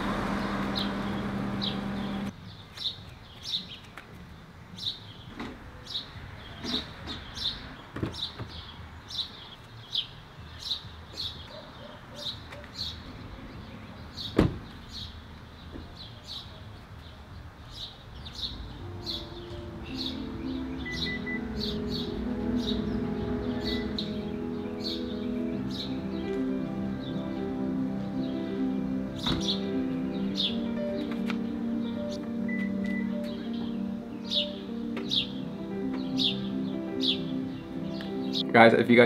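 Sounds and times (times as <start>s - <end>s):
bird chirping: 4.7s - 38.6s.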